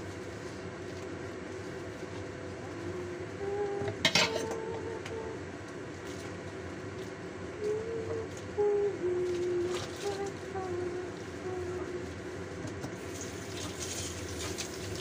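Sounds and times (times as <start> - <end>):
gas flame hissing and simmering: 0.0 - 15.0.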